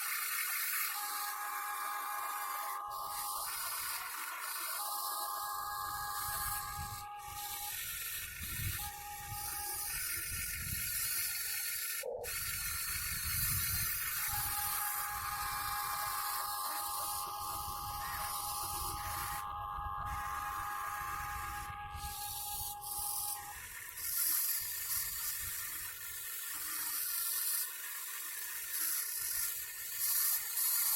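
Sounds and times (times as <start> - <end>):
toy excavator motors whining: 0.0 - 30.9.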